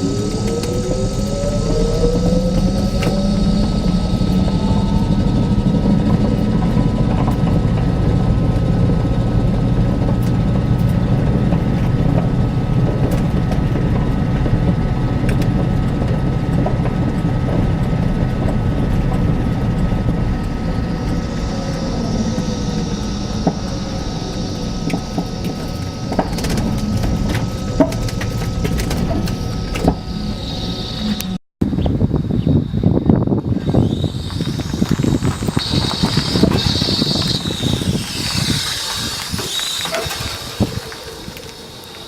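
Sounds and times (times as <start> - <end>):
electric motor whining: 0.0 - 31.4, 32.0 - 42.0
constant high tone: 0.0 - 42.0
low road rumble: 0.0 - 42.0.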